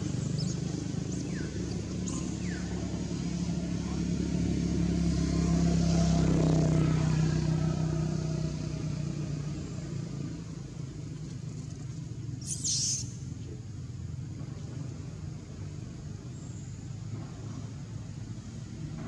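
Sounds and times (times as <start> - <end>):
vehicle engine droning: 0.0 - 12.4, 13.0 - 19.0.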